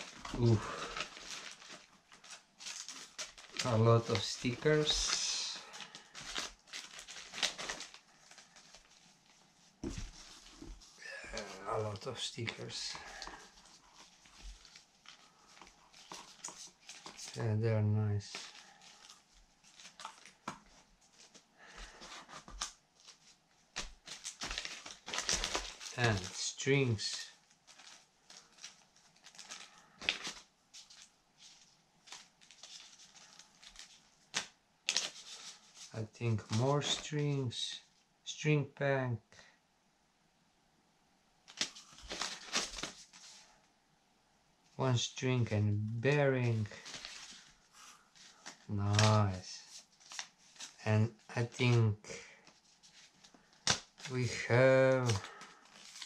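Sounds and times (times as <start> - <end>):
paper sticker sheets rustling: 0.0 - 10.7, 11.3 - 37.3, 46.1 - 51.8, 52.4 - 56.0
plastic bag crinkling: 0.0 - 17.5, 18.2 - 37.0, 41.5 - 43.5, 46.5 - 50.8, 52.3 - 56.0.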